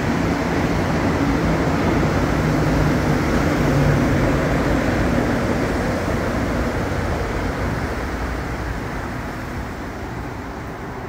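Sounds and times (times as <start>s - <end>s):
metro train running: 0.0s - 11.0s.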